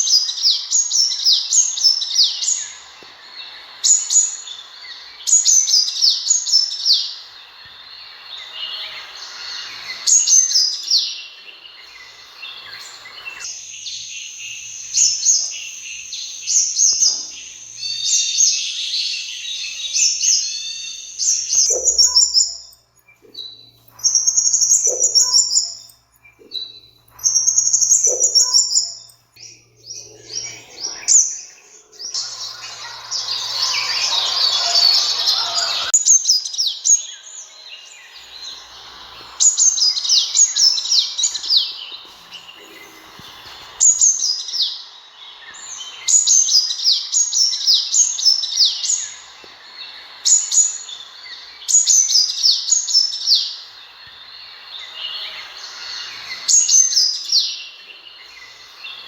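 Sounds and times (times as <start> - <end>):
sunbird calling: 0.0 - 59.0.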